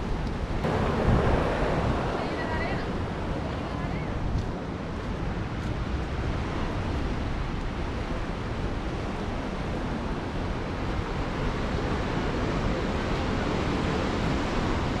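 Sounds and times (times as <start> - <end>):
ocean surf breaking: 0.0 - 15.0
wind rumbling on microphone: 0.0 - 15.0.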